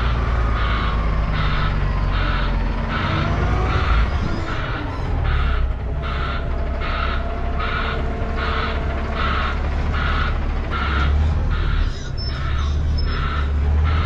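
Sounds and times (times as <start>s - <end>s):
diesel truck engine running: 0.0s - 14.0s
reversing alarm beeping: 0.0s - 14.0s.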